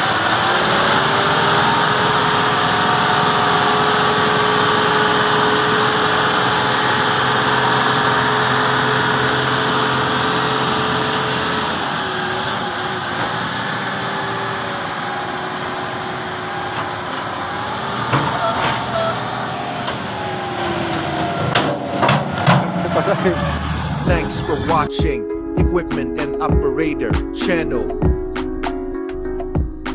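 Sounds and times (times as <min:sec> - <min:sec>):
high whine: 0:00.0 - 0:21.4, 0:22.8 - 0:29.9
heavy diesel engines running: 0:00.0 - 0:28.8.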